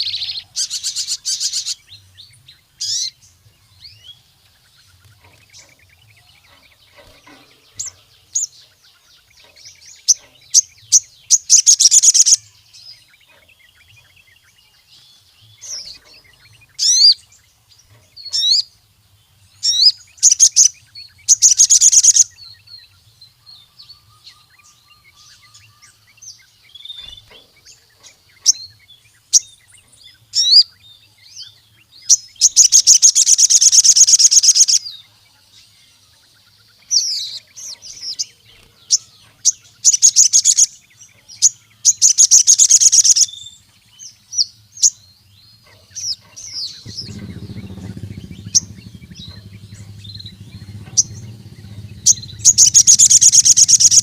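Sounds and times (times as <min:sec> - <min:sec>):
bird chirping and trilling: 0:00.0 - 0:18.8, 0:19.4 - 0:35.0, 0:36.0 - 0:54.0.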